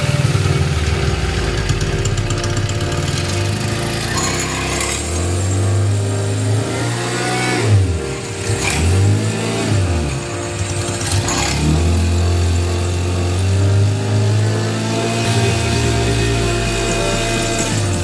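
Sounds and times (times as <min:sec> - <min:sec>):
small petrol engine running: 0:00.0 - 0:18.0.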